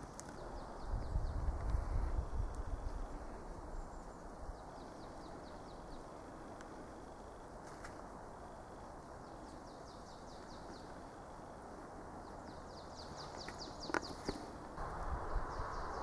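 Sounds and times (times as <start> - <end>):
small birds chirping: 0.0 - 7.7, 8.4 - 11.4, 12.1 - 16.0.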